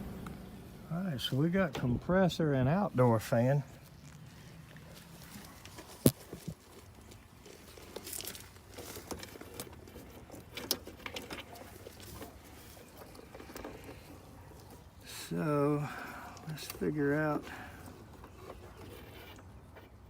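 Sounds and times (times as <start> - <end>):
compressor and fan hum: 0.0 - 20.0
handling clicks and rustling: 3.0 - 20.0.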